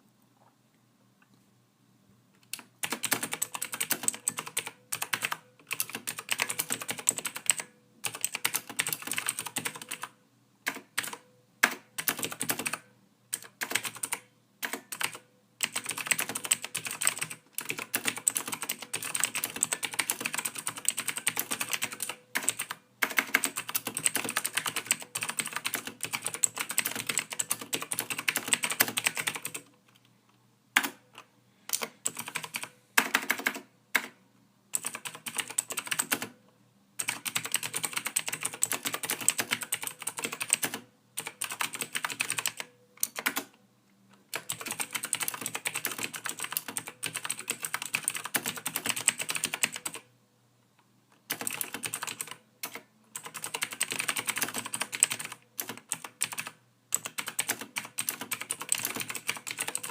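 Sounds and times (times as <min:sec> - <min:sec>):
typing on computer keyboard: 0:02.4 - 0:30.0, 0:30.8 - 0:36.4, 0:37.0 - 0:43.6, 0:44.2 - 0:50.1, 0:51.3 - 0:59.9.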